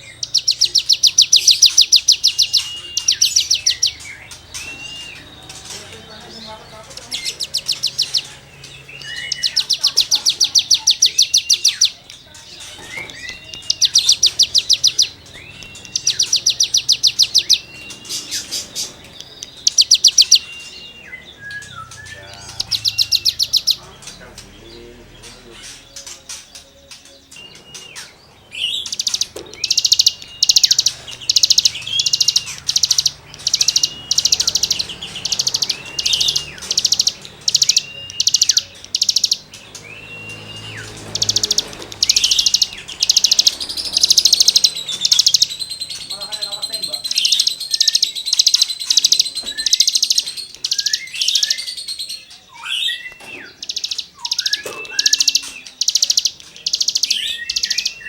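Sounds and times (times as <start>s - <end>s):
rising whistled bird notes: 0.0s - 5.8s, 12.8s - 58.0s
bird singing rasping trills: 0.0s - 58.0s.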